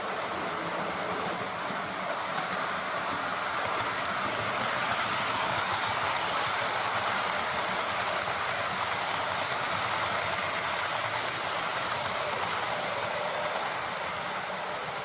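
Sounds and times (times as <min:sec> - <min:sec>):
model train wheels on rail: 0:00.0 - 0:15.0.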